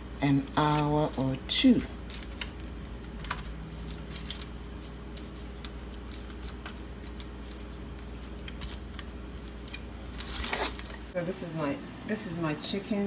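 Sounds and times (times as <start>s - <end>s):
steady low hum: 0.0s - 13.0s
aluminium foil crinkling: 0.4s - 11.1s.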